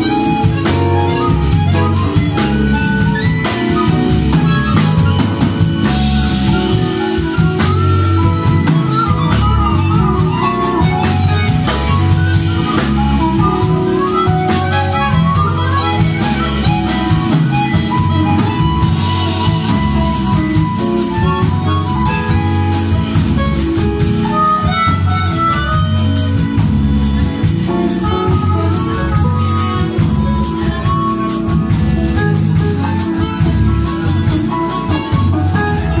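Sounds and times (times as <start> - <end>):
drum kit with cymbal strikes: 0.0 - 36.0
electric guitar: 0.0 - 36.0
harmonica melody: 0.0 - 36.0
jazz band playing: 0.0 - 36.0
walking electric bass line: 0.0 - 36.0.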